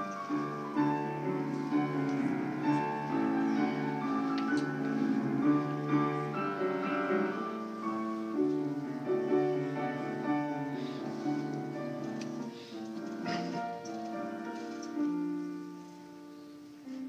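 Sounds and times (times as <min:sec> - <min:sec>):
piano accompaniment: 0:00.0 - 0:17.0.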